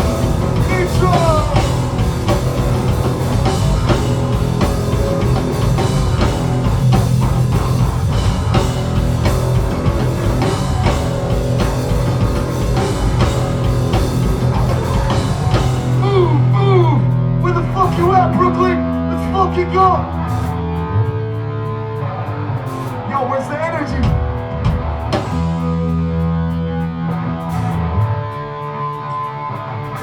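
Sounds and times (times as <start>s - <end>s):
pounding drum kit: 0.0s - 21.0s, 22.7s - 28.1s
bass guitar: 0.0s - 30.0s
distorted electric guitars: 0.0s - 30.0s.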